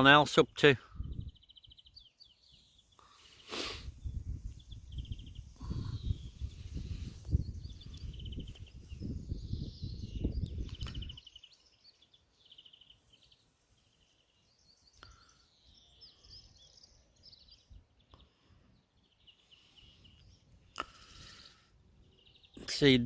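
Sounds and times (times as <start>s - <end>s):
small birds singing: 0.0s - 23.0s.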